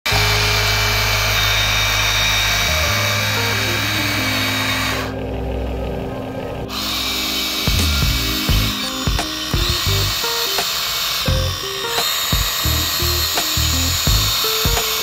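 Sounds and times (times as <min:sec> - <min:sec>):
small electric motor whirring: 0:00.1 - 0:05.2, 0:06.7 - 0:15.0
background music: 0:00.1 - 0:15.0.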